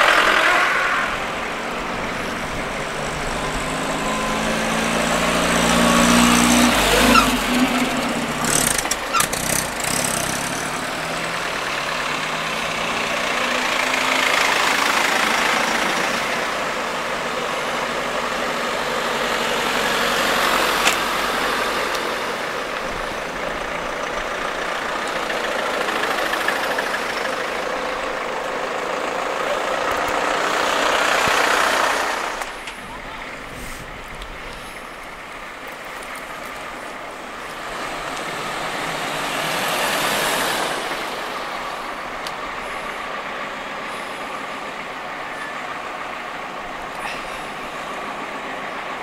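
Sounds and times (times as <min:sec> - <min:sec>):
van engine passing: 0:00.0 - 0:49.0
vehicles driving past: 0:00.0 - 0:49.0.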